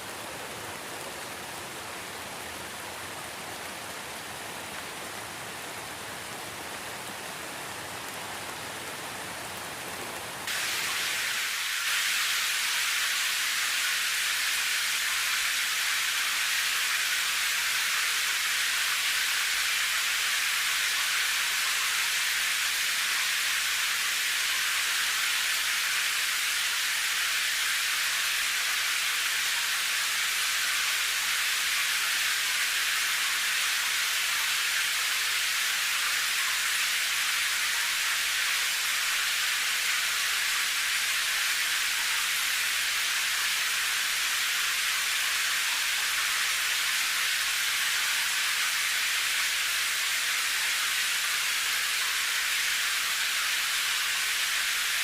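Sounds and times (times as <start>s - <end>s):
heavy rain hiss: 0.0s - 55.0s
rain: 0.0s - 55.0s.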